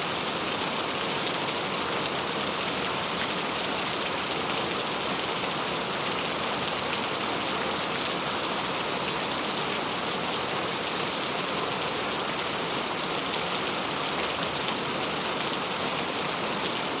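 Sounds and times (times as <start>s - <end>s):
rain pattering: 0.1s - 17.0s.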